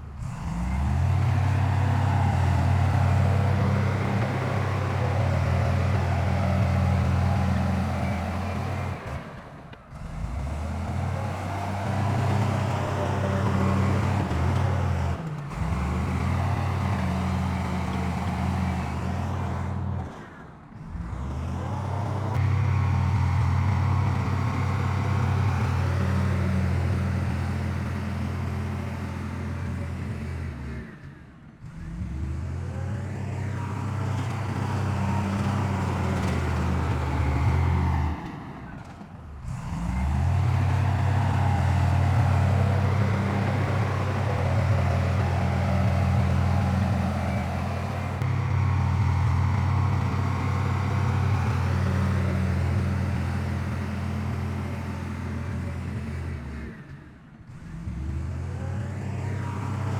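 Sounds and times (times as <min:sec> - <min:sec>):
heavy diesel machinery engines: 0:00.0 - 0:59.9.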